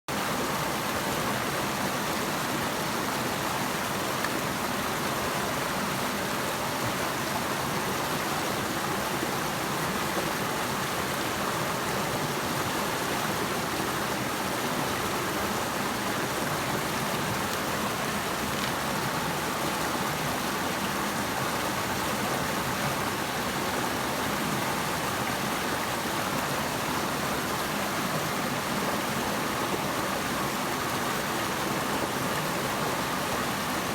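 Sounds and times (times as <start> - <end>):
water rushing: 0.1 - 33.9.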